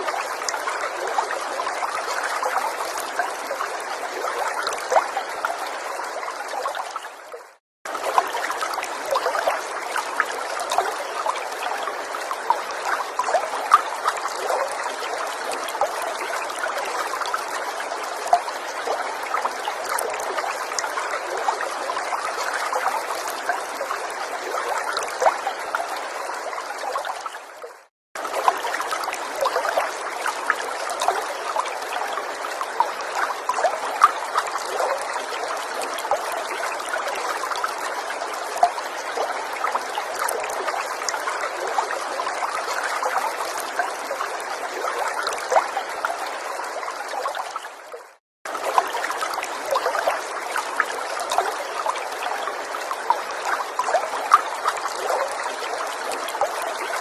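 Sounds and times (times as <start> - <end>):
small stream trickling: 0.0 - 57.0.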